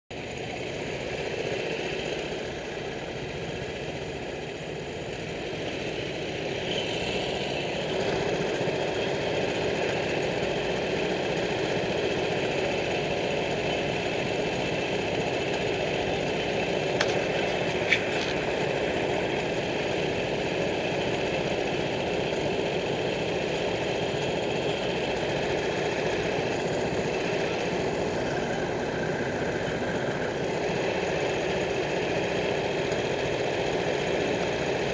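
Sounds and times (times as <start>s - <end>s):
kart engines idling: 0.1s - 34.9s.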